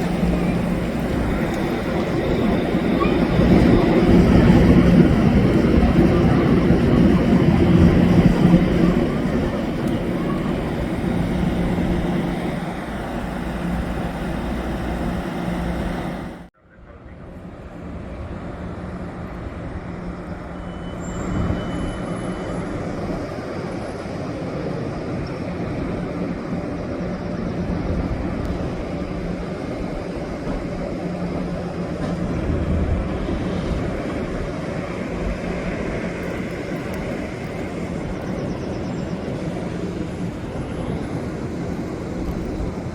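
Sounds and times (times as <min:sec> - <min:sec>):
diesel locomotive rumble and hum: 0:00.0 - 0:42.9.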